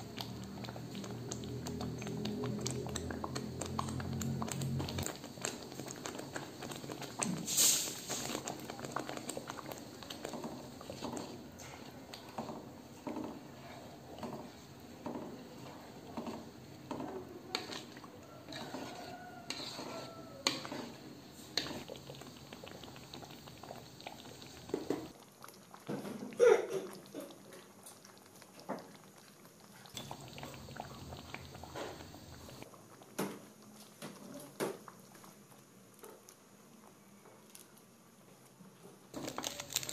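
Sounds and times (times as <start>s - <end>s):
sauce bubbling and popping: 0.0s - 26.0s, 26.9s - 33.2s, 39.2s - 39.9s.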